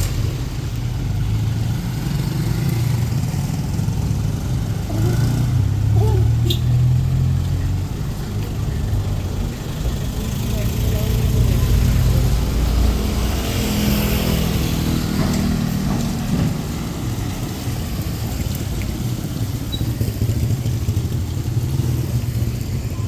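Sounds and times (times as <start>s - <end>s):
street noise hiss: 0.0s - 23.0s
vehicle engine passing: 0.0s - 23.0s.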